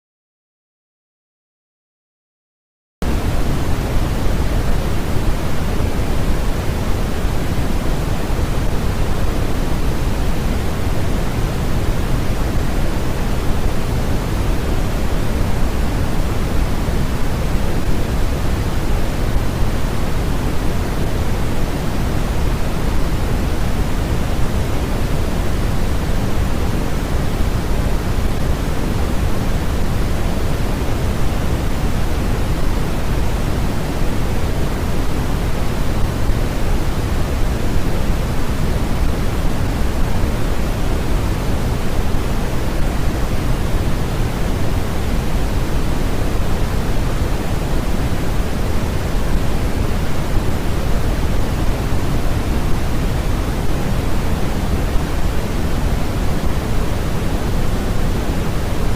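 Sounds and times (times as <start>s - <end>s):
low rushing noise hiss: 3.0s - 58.9s.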